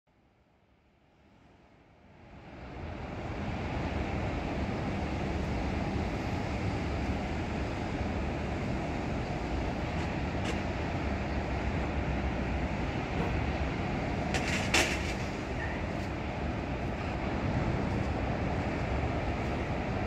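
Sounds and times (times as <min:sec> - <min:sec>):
jet airliner engines rumbling: 0:01.3 - 0:20.0.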